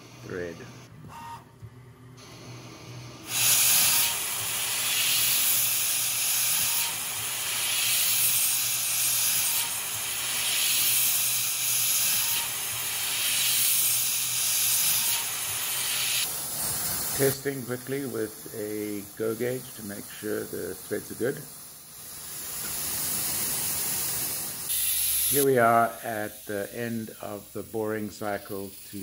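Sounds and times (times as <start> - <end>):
lathe cutting hiss: 3.2 - 29.0.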